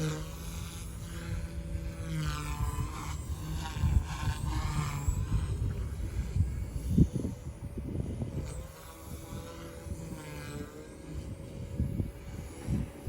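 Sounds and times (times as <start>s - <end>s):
rc helicopter rotor whine: 0.0s - 13.0s
wind buffeting microphone: 0.0s - 13.0s.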